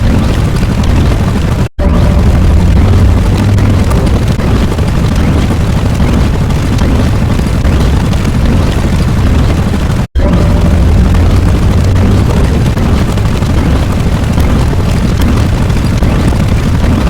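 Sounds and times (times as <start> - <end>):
deep explosion rumble: 0.0 - 17.0.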